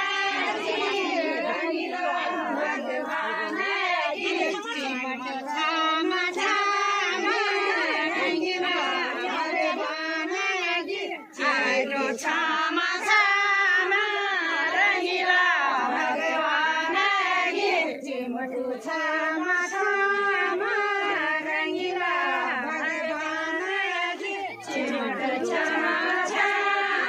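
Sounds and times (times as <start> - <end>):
women singing in chorus: 0.0 - 27.0.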